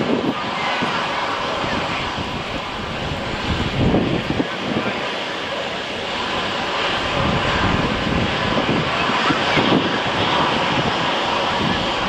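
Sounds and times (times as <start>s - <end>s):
jet engines rushing: 0.0s - 12.0s
wind: 0.0s - 12.0s.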